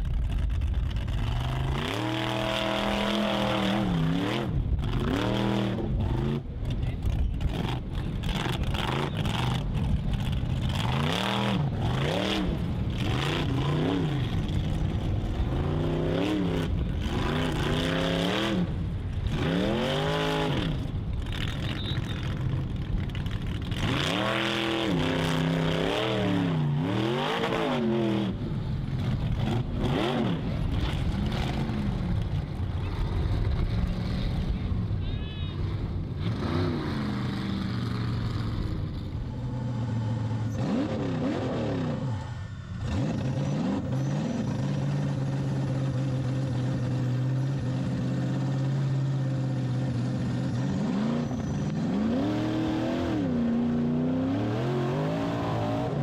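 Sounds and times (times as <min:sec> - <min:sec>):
buggy engine revving: 0:00.0 - 0:35.0, 0:35.6 - 0:56.0.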